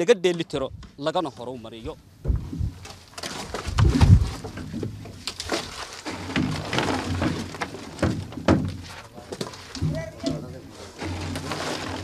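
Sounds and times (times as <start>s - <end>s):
buckets of concrete knocking and scraping: 0.3s - 12.0s.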